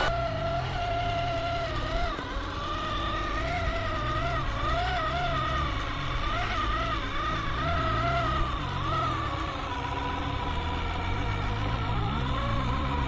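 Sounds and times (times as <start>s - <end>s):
toy truck electric motor whine: 0.0s - 13.0s
tyres rumbling on rough ground: 0.0s - 13.0s.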